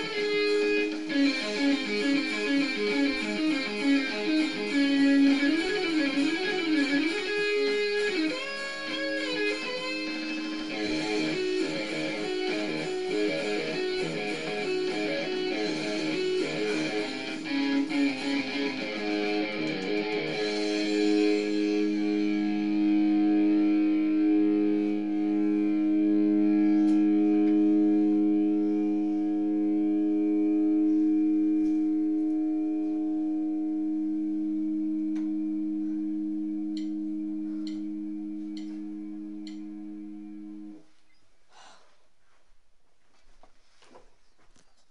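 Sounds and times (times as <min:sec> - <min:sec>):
electric guitar notes and chord: 0:00.0 - 0:40.9.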